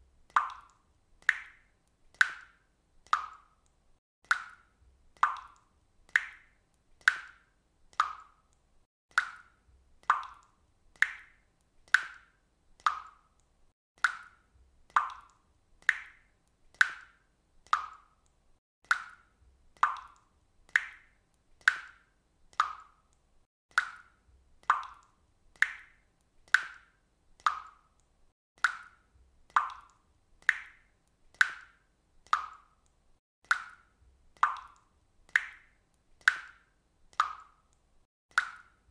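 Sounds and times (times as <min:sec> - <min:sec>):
water dripping from a faucet: 0:00.0 - 0:38.9.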